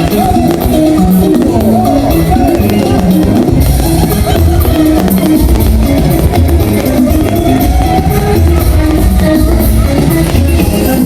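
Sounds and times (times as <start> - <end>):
pop song with drums: 0.0 - 11.0.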